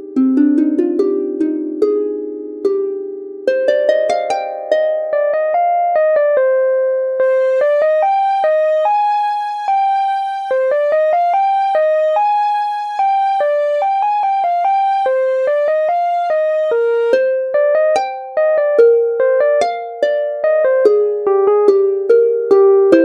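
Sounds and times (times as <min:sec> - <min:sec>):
plucked-string ringtone melody: 0:00.0 - 0:23.0.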